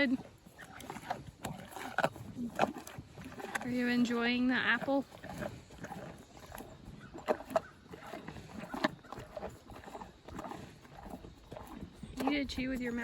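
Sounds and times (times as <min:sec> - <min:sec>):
animal chewing an apple: 0:00.0 - 0:13.0.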